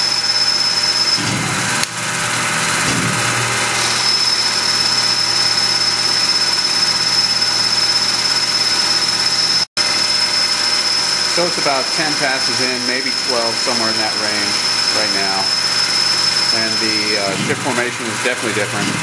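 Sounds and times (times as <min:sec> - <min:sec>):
high machine whine: 0:00.0 - 0:19.0
lathe running: 0:00.0 - 0:19.0.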